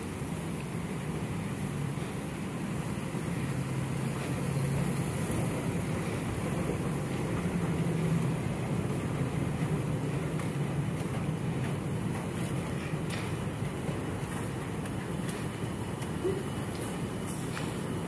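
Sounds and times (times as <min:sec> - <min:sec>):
moving walkway hum: 0:00.0 - 0:18.0
ventilation hiss: 0:00.0 - 0:18.0.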